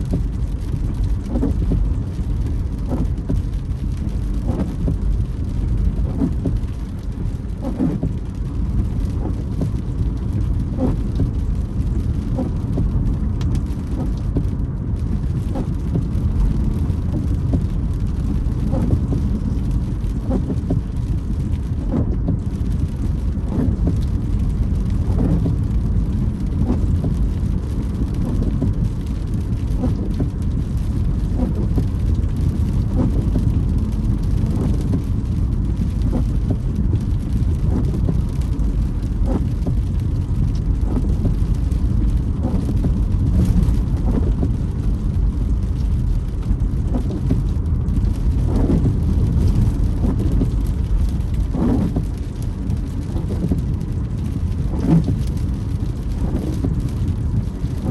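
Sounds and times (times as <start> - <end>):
road and engine rumble: 0.0 - 57.9
windscreen wipers creaking: 0.0 - 57.9.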